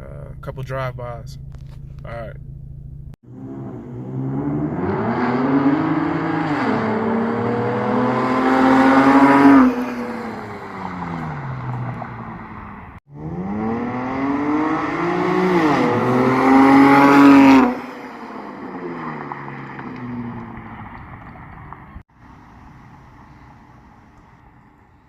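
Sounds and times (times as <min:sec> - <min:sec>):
car exhaust under hard acceleration: 0:00.0 - 0:25.0.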